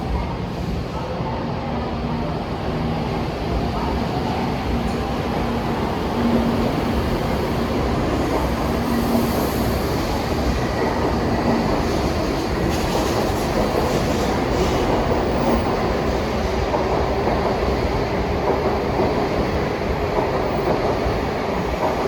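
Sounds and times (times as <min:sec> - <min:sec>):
train wheels rumbling: 0:02.2 - 0:22.0.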